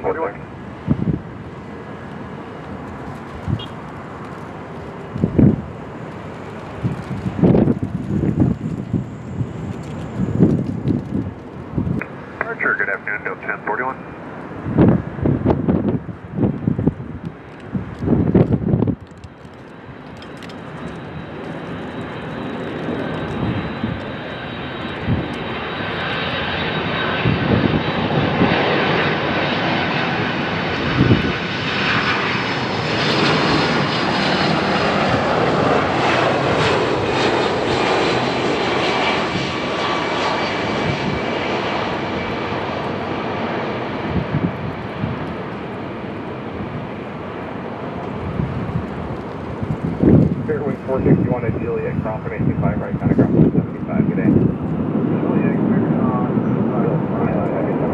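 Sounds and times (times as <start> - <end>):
jet airliner engines passing: 0.0 - 57.9.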